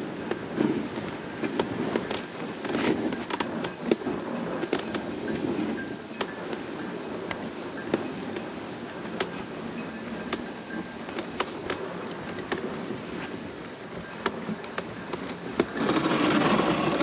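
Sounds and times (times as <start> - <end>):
harness clinking and jingling: 0.0 - 17.0
sled rumbling over snow: 0.0 - 17.0.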